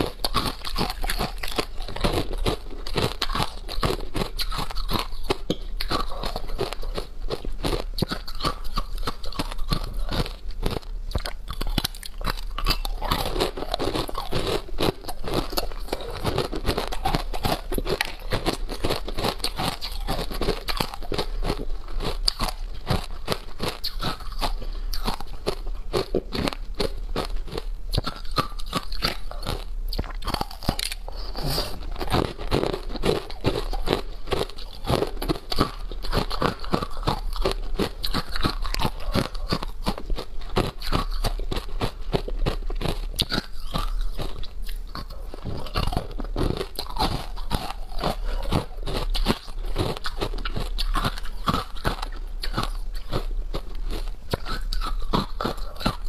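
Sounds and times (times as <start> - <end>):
ice being chewed crunching: 0.0 - 56.0.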